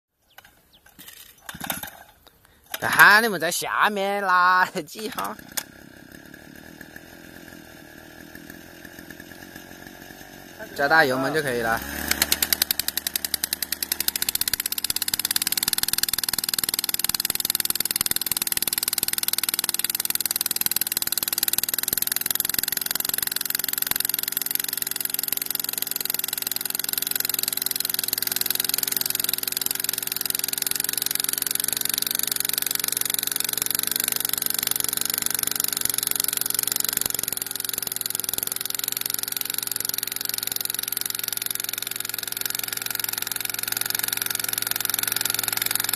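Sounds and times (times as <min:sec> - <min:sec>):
drill rod boring into soil: 0:00.3 - 0:45.9
small petrol engine running: 0:00.3 - 0:45.9.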